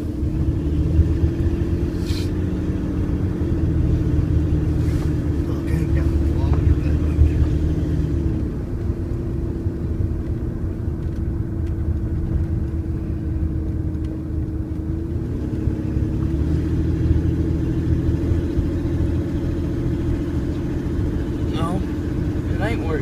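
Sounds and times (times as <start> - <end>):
car engine running: 0.0 - 23.0
road rumble: 0.0 - 23.0.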